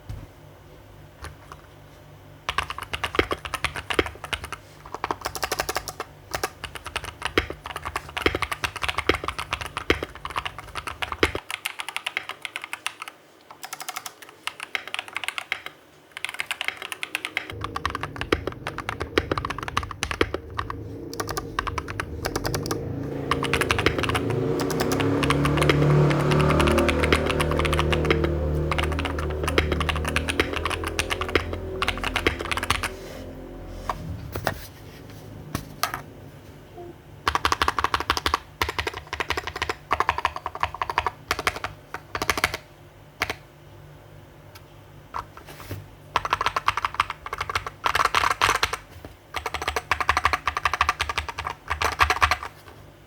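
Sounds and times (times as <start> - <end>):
mechanical keyboard typing: 2.5 - 33.0, 37.2 - 43.4, 46.1 - 52.6.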